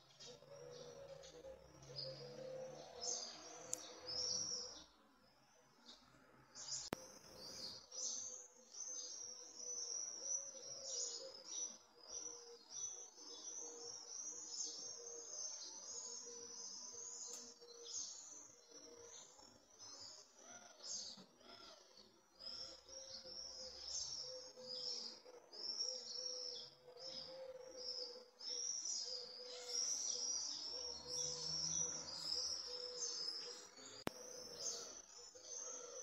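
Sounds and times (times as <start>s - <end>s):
songbirds chirping chorus: 0.0s - 36.0s.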